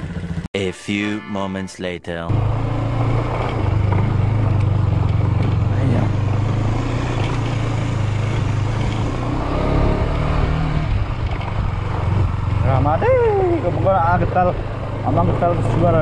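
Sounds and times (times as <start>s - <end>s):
motorcycle engine running: 0.0s - 0.5s, 2.3s - 16.0s.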